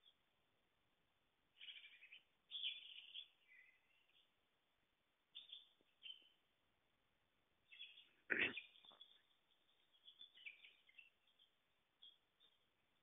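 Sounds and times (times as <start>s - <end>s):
faint bird chirps: 0.0s - 0.5s, 1.5s - 6.7s, 7.6s - 13.0s.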